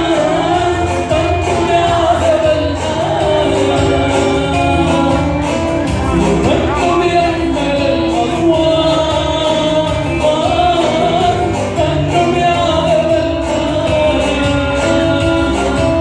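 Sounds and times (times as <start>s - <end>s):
instrumental accompaniment: 0.0s - 16.0s
person singing a hymn: 0.0s - 16.0s
steady percussive beat: 0.0s - 16.0s.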